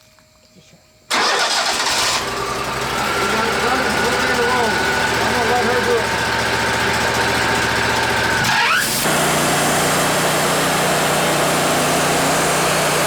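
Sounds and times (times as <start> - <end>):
band sawmill running: 1.7 - 13.0
engine revving with rising whine: 1.8 - 13.0.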